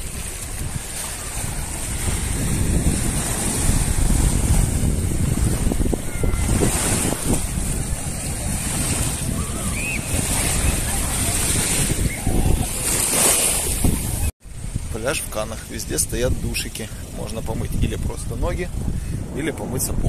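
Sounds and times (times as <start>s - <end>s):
waves lapping on sandy shore: 0.0s - 19.6s
wind buffeting microphone: 0.0s - 20.0s.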